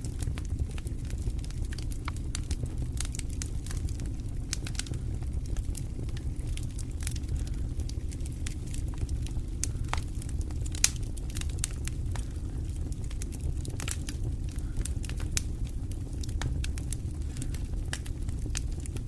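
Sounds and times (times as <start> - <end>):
low rumble of burning logs: 0.0 - 19.0
wood fire crackling: 0.0 - 19.0.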